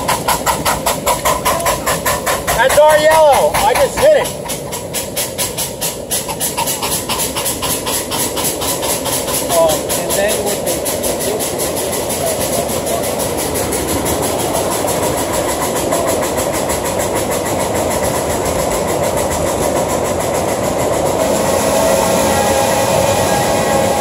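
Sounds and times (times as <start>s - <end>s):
train rumble: 0.0s - 24.0s
train wheels clicking on track: 0.0s - 24.0s.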